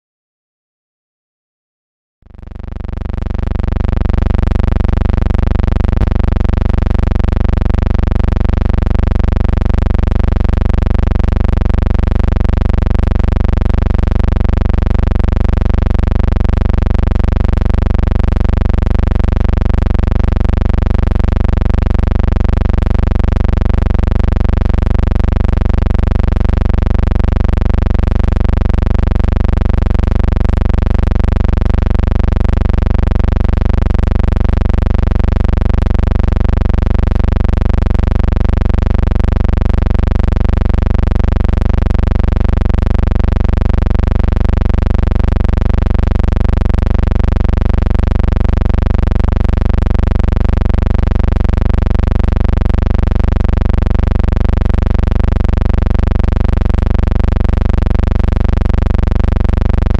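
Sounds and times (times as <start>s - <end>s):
loud steady low hum: 2.2s - 59.9s.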